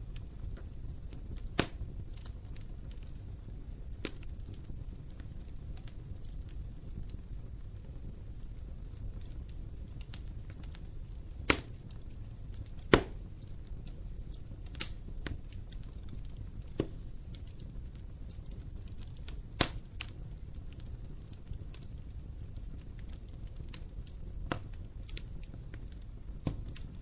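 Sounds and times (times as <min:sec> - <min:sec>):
fire crackling: 0:00.0 - 0:27.0
fire flames rumbling: 0:00.0 - 0:27.0
sharp pops of fire: 0:00.1 - 0:27.0.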